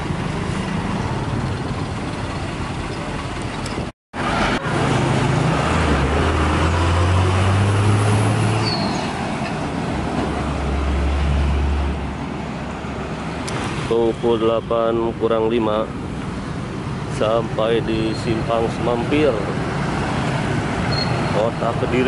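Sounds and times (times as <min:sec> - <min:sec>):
bus and truck engine drone: 0:00.0 - 0:22.0
heavy vehicles passing: 0:00.0 - 0:22.0.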